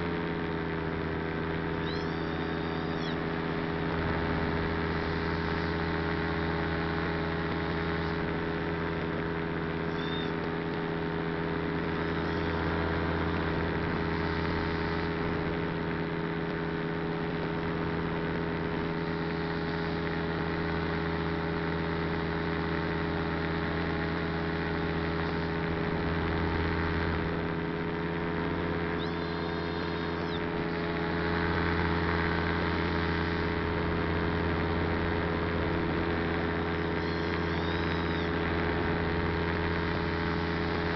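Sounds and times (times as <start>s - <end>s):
small aircraft motor humming: 0.0s - 40.9s.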